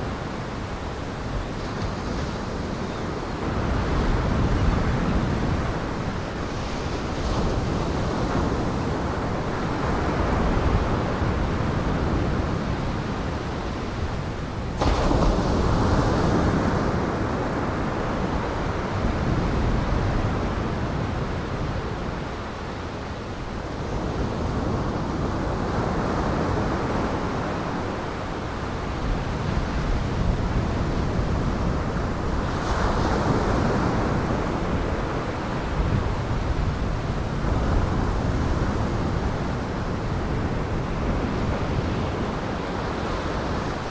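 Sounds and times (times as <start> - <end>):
wind: 0.0 - 43.9.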